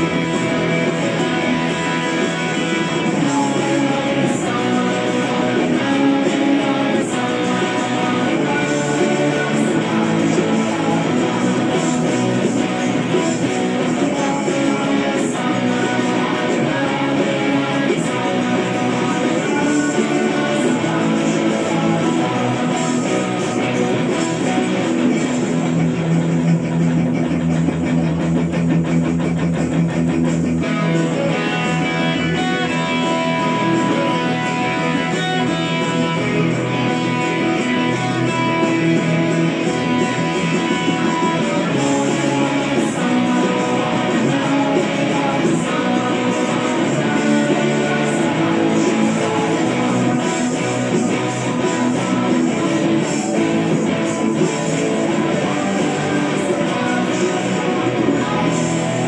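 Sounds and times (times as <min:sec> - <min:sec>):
full band rock music: 0:00.0 - 0:59.0
strummed electric guitar: 0:00.0 - 0:59.0.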